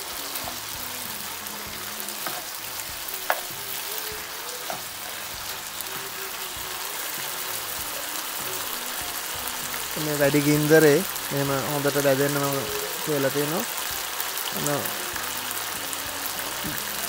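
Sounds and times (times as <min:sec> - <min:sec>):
stir fry sizzling in a frying pan: 0:00.0 - 0:17.0.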